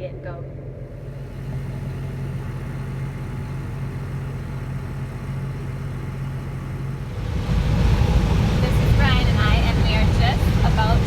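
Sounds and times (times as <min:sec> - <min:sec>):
farm vehicle engine humming: 0:00.0 - 0:11.0
rough rumble: 0:00.0 - 0:11.0.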